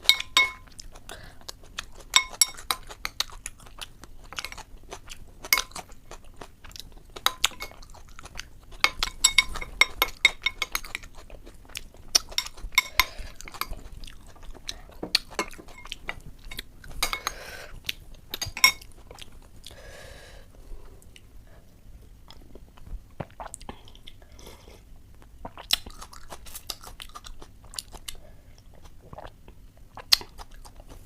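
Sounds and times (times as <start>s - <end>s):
crunching and chewing: 0.0s - 19.8s, 25.2s - 31.0s.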